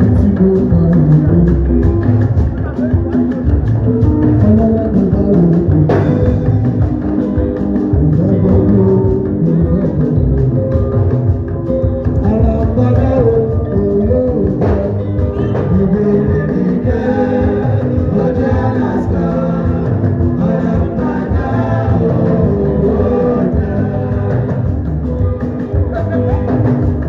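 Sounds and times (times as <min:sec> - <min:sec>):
person singing: 0:00.0 - 0:10.9, 0:12.1 - 0:27.0
live band playing: 0:00.0 - 0:27.0.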